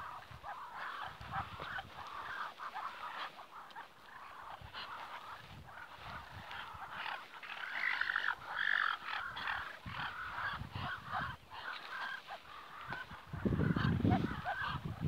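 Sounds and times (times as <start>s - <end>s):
ducks chirping and trilling: 0.0s - 15.0s.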